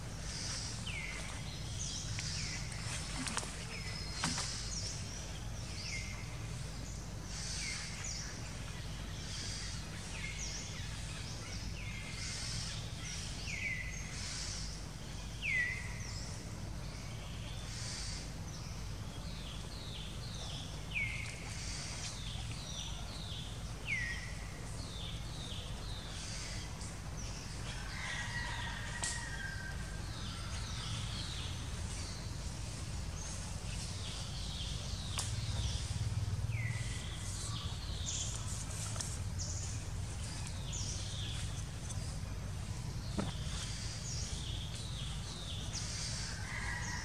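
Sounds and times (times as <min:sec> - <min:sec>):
birds chirping: 0:00.0 - 0:47.0
steady low rumble: 0:00.0 - 0:47.0.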